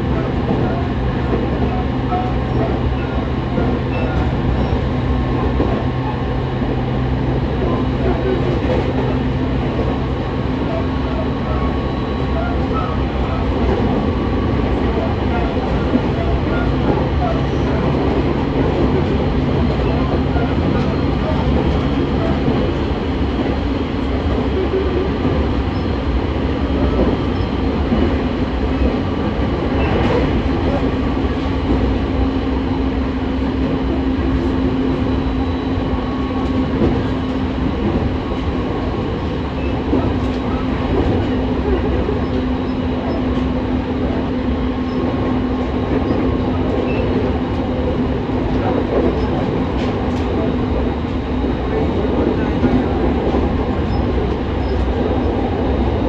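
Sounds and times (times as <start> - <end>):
train hum: 0.0 - 56.0
wheels rumbling on rail: 0.0 - 56.0.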